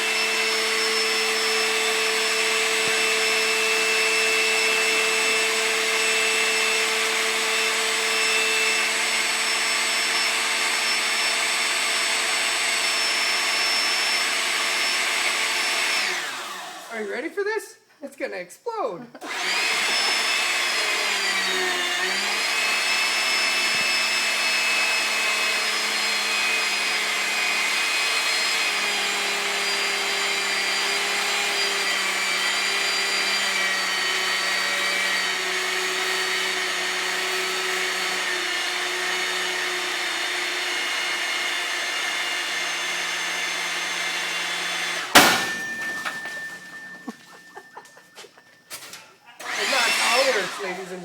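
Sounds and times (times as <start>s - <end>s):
hydraulic pump motor whining: 0.0s - 16.9s, 19.2s - 50.9s.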